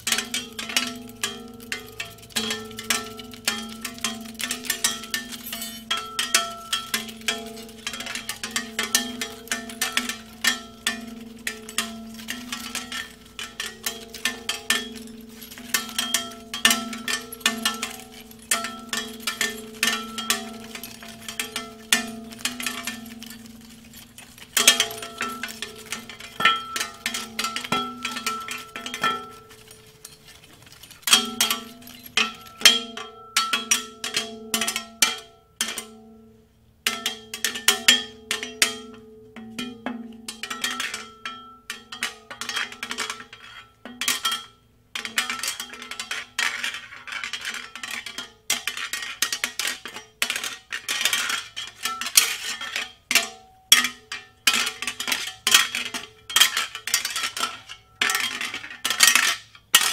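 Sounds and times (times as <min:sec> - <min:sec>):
metal objects clanging: 0:00.0 - 0:36.2, 0:36.9 - 0:59.9.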